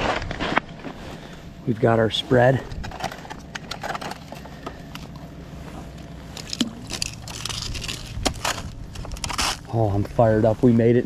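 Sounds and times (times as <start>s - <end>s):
clothing and gear rustling: 0.0s - 10.8s
steady low rumble: 0.0s - 11.0s.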